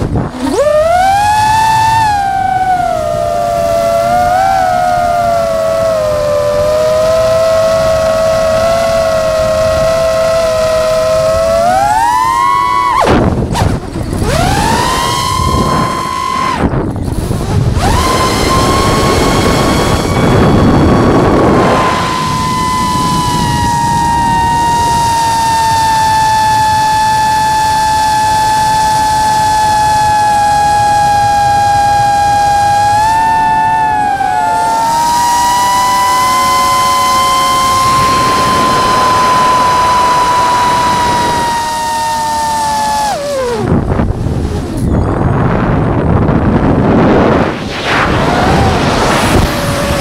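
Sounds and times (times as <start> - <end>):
drone motors whining: 0.0 - 50.0
wind rush: 0.0 - 50.0.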